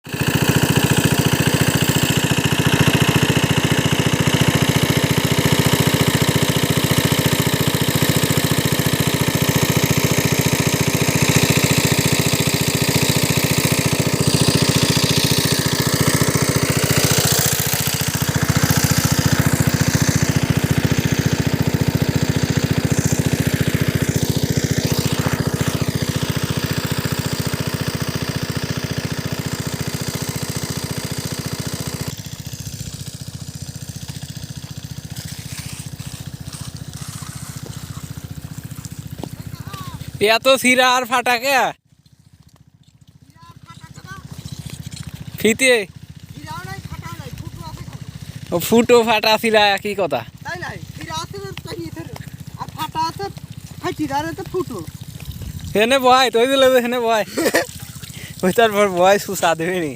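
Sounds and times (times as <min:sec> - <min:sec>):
water pump engine running: 0:00.0 - 0:59.9.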